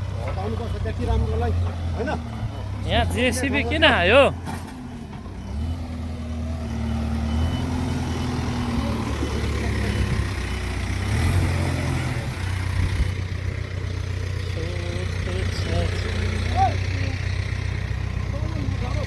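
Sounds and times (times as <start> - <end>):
diesel engine running under load: 0.0 - 19.0.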